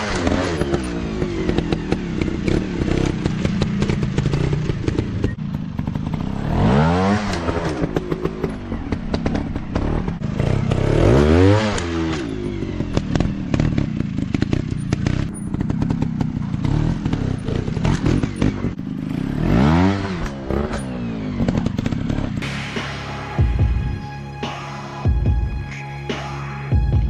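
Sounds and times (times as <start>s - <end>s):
dirt bike engine revving: 0.0s - 23.7s.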